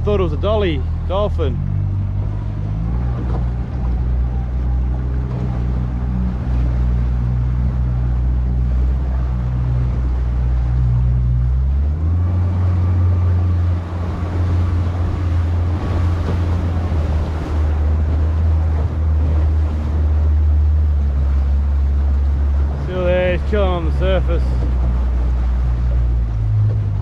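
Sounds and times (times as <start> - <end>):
boat motor running: 0.0 - 27.0
water noise: 0.0 - 27.0
wind: 0.0 - 27.0.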